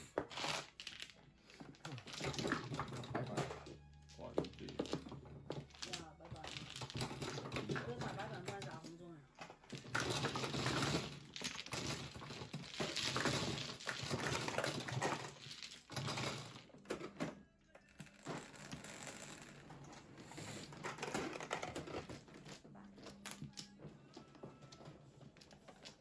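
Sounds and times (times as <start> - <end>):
plastic tiles clattering: 0.1 - 19.6, 20.2 - 26.0.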